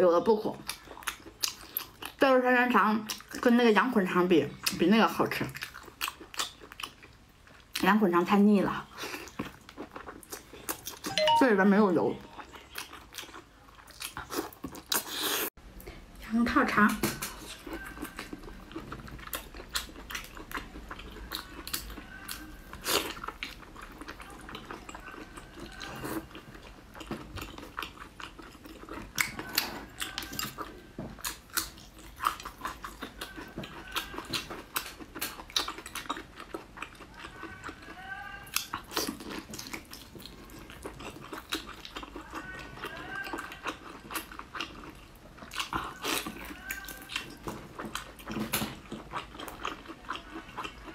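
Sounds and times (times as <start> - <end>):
chewing and biting food: 0.6 - 2.3, 3.0 - 7.9, 8.7 - 11.4, 12.2 - 15.5, 16.9 - 50.9.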